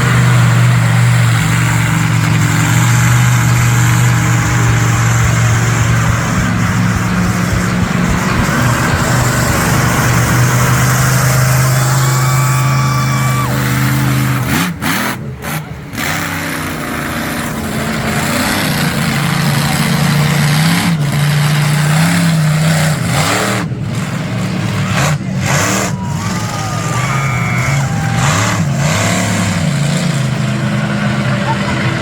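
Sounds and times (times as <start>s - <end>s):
monster truck engine revving: 0.0s - 32.0s.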